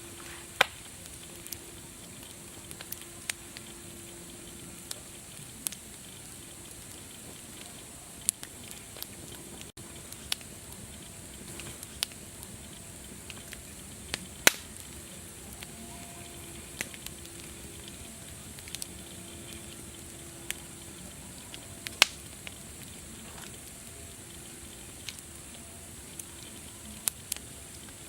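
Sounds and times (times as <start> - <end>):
wood fire crackling: 0.0 - 28.0
sharp fire pops: 0.1 - 15.7, 16.4 - 25.3.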